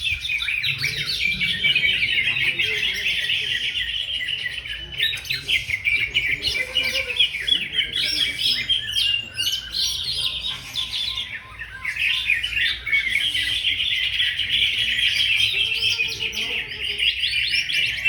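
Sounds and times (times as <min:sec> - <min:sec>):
bird singing varied chirps: 0:00.0 - 0:18.0.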